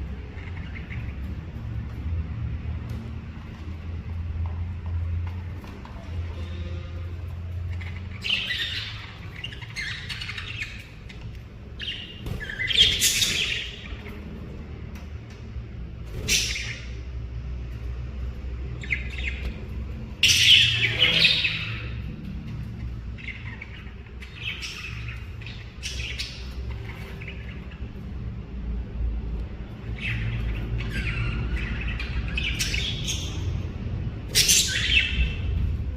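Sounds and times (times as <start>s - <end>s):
lovebirds chirping and squawking: 0.0s - 4.2s, 5.2s - 35.9s.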